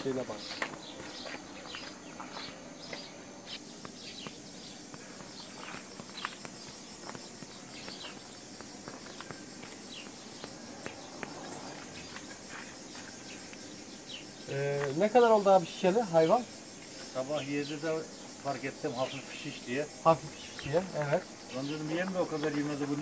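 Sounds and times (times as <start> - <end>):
high insect buzz: 0.0 - 23.0
small birds chirping: 0.0 - 23.0.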